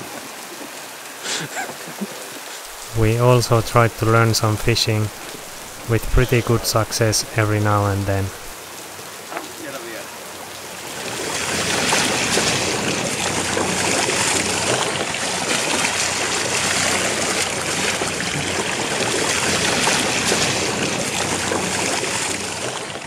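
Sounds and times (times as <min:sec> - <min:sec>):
water rushing along a boat hull: 0:00.0 - 0:23.0.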